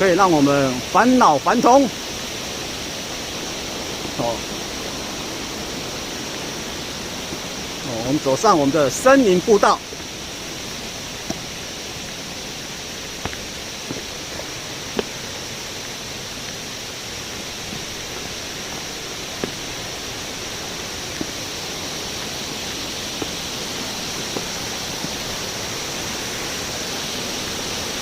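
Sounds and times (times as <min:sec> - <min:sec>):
waterfall and stream rushing: 0:00.0 - 0:28.0.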